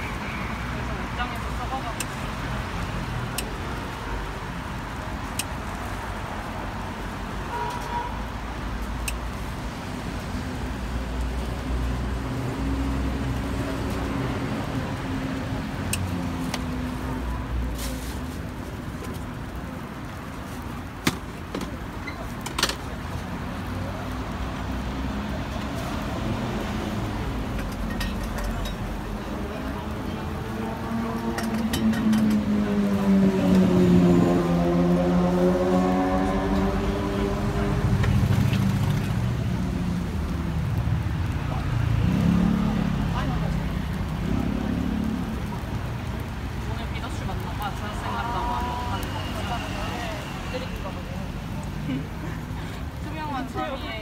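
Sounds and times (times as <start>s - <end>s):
street stall rumble and hiss: 0.0s - 54.0s.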